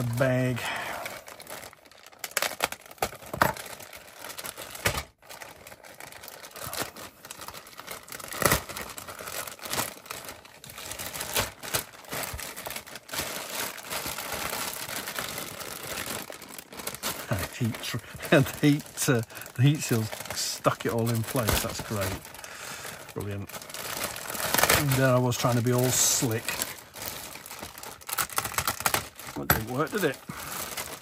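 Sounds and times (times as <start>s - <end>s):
plastic bag crinkling: 0.0s - 31.0s.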